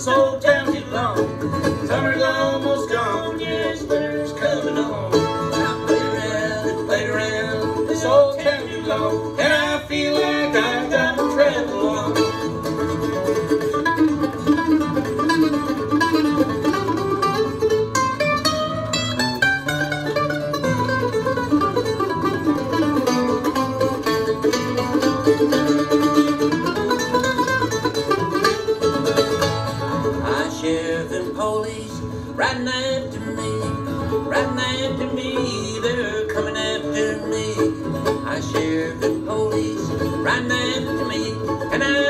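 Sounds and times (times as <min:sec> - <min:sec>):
acoustic guitar strumming: 0:00.0 - 0:42.0
mandolin picking: 0:00.0 - 0:42.0.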